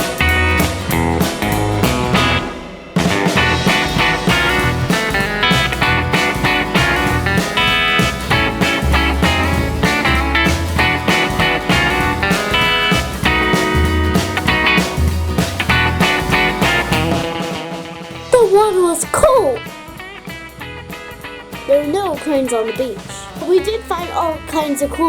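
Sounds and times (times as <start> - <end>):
guitar rock music: 0.0 - 25.0.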